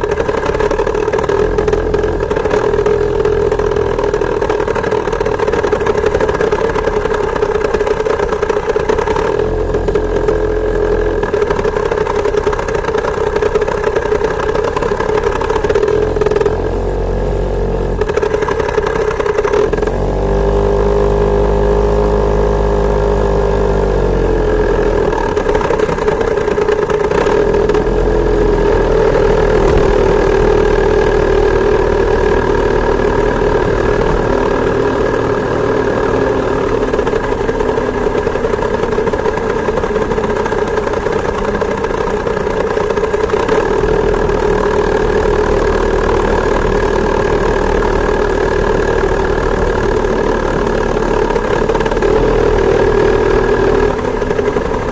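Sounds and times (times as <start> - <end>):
two-stroke moped engine running: 0.0 - 54.9.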